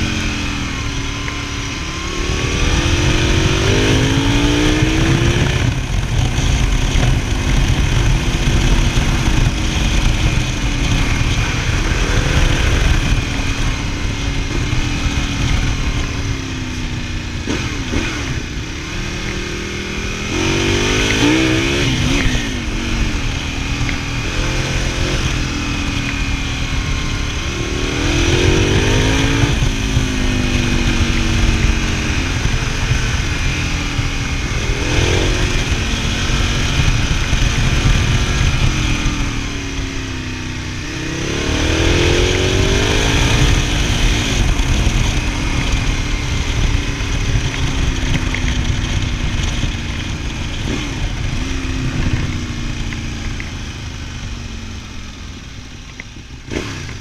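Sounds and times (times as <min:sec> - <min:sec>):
motorcycle engine accelerating: 0:00.0 - 0:57.0
wind rumble on microphone: 0:00.0 - 0:57.0.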